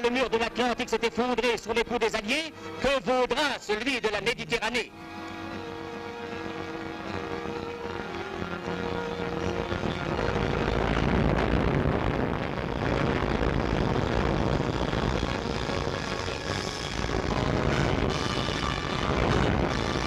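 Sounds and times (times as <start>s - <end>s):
propeller plane engines droning: 0.0s - 3.1s, 4.9s - 20.0s.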